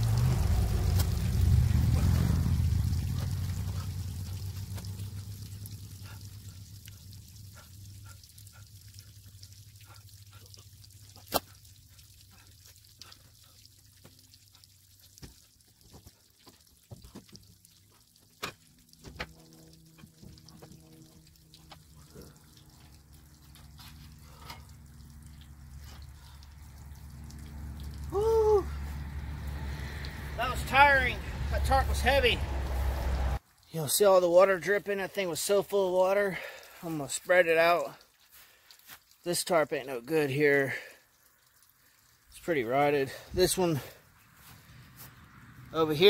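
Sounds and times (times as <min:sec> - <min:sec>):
water dripping: 0:00.0 - 0:46.0
water pouring off a tarp: 0:00.0 - 0:46.0.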